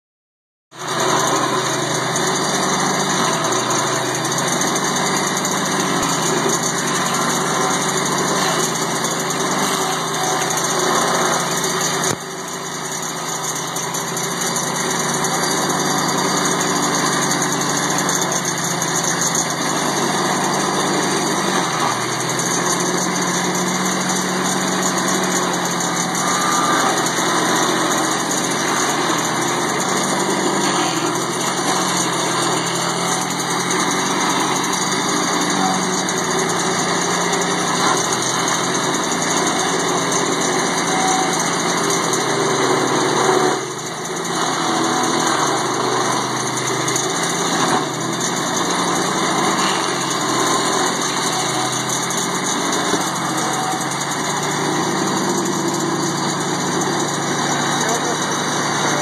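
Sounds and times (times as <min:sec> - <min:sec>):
cutter wheel grinding stump: 0:00.7 - 0:59.0
small gasoline engine running: 0:00.7 - 0:59.0.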